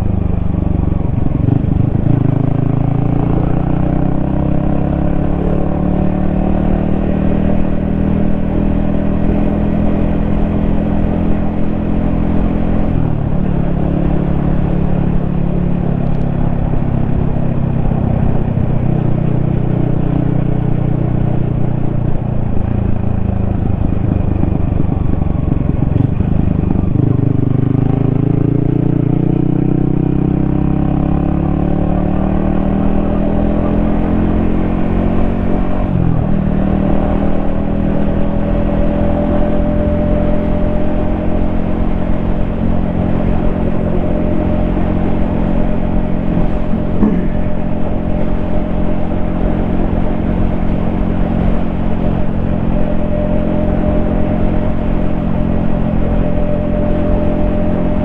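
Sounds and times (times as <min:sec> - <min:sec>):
motorcycle engine: 0:00.0 - 0:58.0
road and wind noise: 0:00.0 - 0:58.0.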